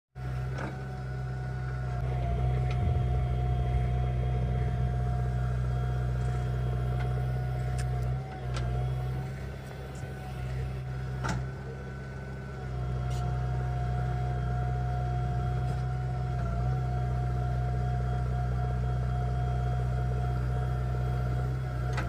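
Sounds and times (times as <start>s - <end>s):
diesel engine under load: 0.2s - 22.0s
hydraulic whine: 0.2s - 22.0s.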